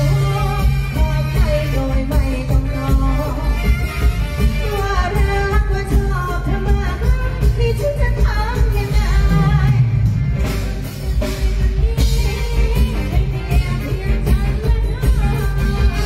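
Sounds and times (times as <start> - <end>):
bass and drum beat: 0.0 - 16.0
electric guitar: 0.0 - 16.0.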